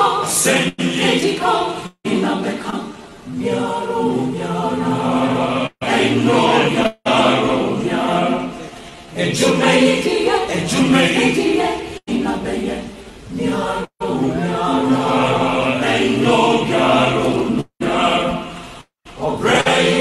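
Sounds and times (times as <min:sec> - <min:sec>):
group of voices chanting: 0:00.0 - 0:18.6, 0:19.2 - 0:20.0.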